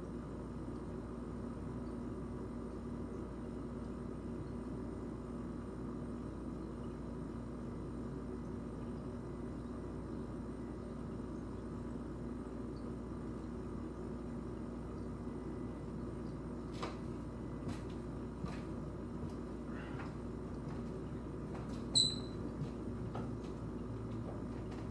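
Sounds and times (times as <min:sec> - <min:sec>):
room hum and hiss: 0:00.0 - 0:24.9.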